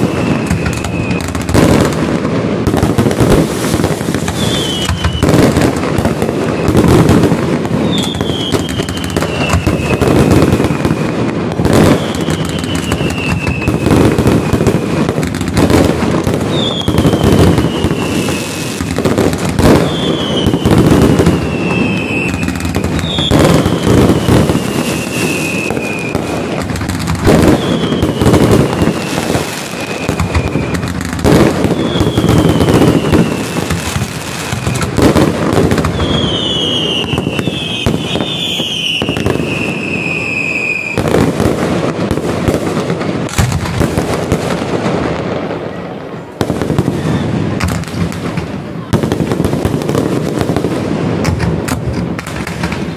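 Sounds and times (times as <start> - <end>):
falling firework whistles: 0.0 - 42.2, 44.7 - 48.0
firework bursts and bangs: 0.0 - 52.9
fireworks crackling: 0.0 - 52.9.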